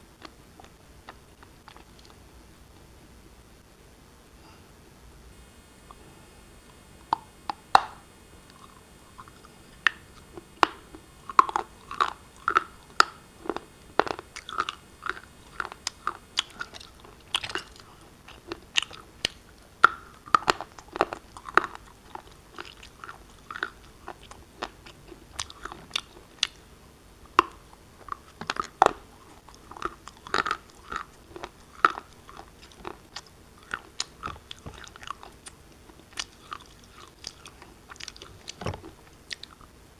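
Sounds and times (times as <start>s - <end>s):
shale crunching being chewed: 0.2s - 2.2s, 6.7s - 26.6s, 27.3s - 39.7s.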